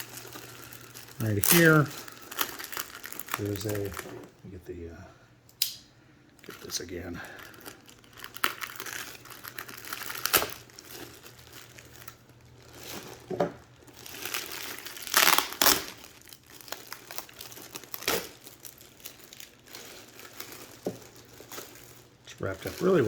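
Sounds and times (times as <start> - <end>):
packaging wrap crinkling: 0.0 - 4.4, 6.4 - 23.0.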